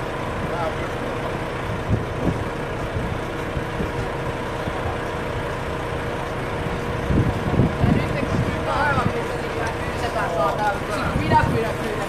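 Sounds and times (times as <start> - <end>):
large vehicle engine hum: 0.0 - 12.0.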